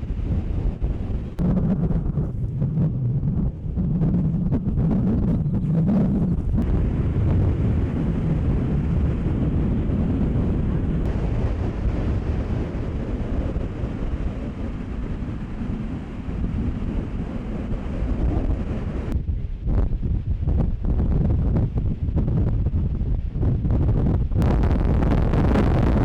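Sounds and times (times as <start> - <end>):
strong wind on microphone: 0.0 - 26.0.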